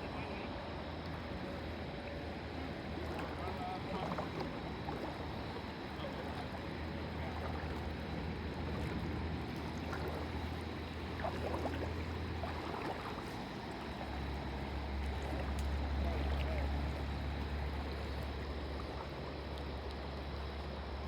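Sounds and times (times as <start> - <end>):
water sloshing and trickling: 0.0 - 21.0.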